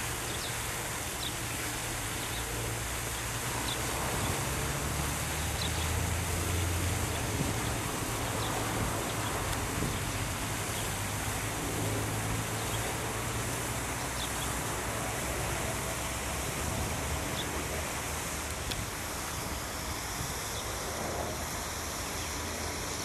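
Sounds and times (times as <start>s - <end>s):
fountain water rushing into pond: 0.0s - 23.0s
wind rumble on microphone: 0.0s - 23.0s.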